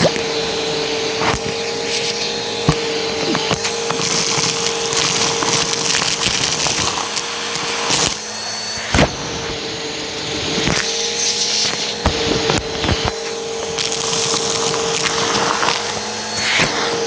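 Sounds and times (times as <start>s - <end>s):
vacuum cleaner whining: 0.0s - 17.0s
debris rattling up vacuum hose: 1.0s - 9.4s, 10.4s - 17.0s.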